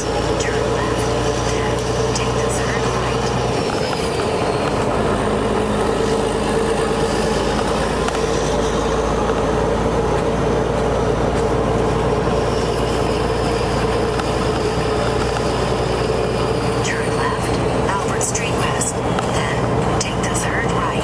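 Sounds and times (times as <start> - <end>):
diesel truck engine droning: 0.0 - 21.0.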